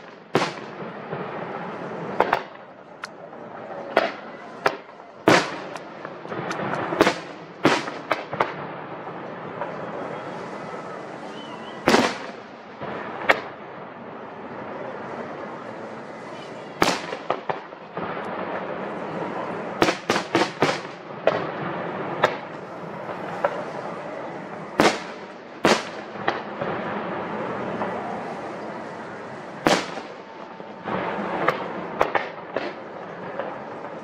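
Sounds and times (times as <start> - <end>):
distant firework bangs: 0.0 - 13.9, 16.7 - 34.0
steady background hiss: 0.0 - 34.0.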